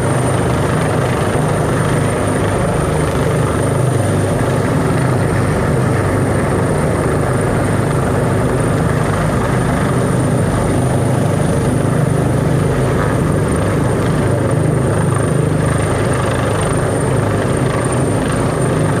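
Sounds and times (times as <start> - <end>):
helicopter hovering: 0.0 - 19.0.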